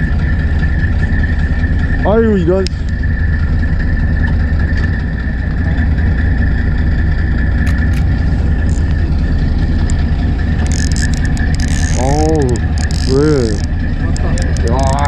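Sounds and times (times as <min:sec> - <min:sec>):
boat engine idling: 0:00.0 - 0:15.0
high whine: 0:00.0 - 0:15.0.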